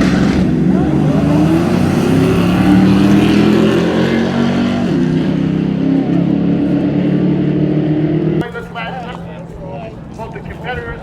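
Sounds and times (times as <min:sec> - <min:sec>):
car engines idling and revving: 0:00.0 - 0:11.0.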